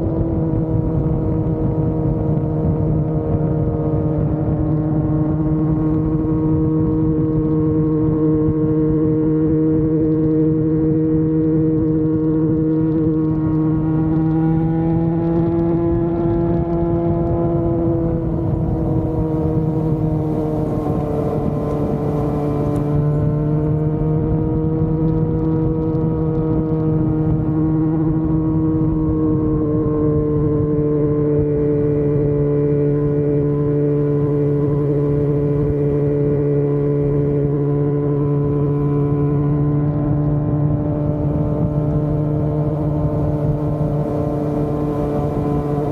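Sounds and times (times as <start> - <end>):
low rumbling noise: 0.0 - 36.4, 38.2 - 45.9
motorcycle engine cruising: 0.0 - 45.9.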